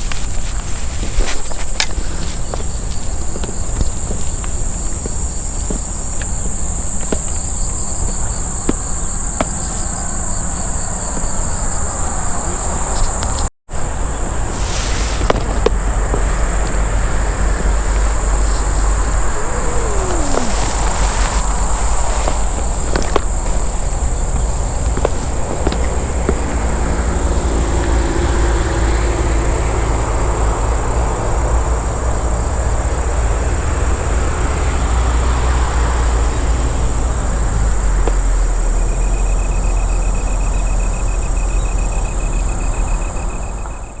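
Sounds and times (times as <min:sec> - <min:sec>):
insects chirping: 0:00.0 - 0:44.0
pulsing insect call: 0:00.0 - 0:44.0.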